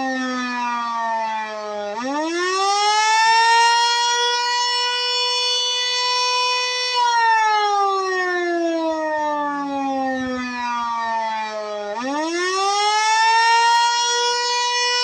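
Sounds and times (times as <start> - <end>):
electromechanical siren: 0.0 - 15.0.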